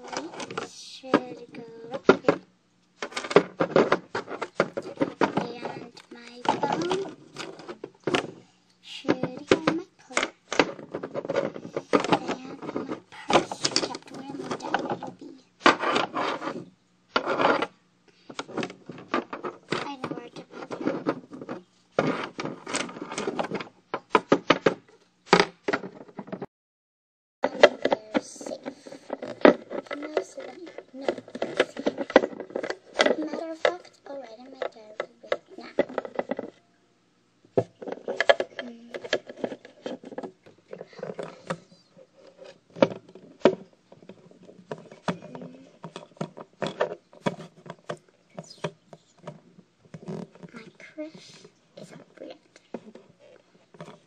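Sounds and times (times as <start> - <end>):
plastic toys clicking and rustling: 0.0 - 17.7, 18.3 - 26.5, 27.4 - 36.6, 37.6 - 54.0.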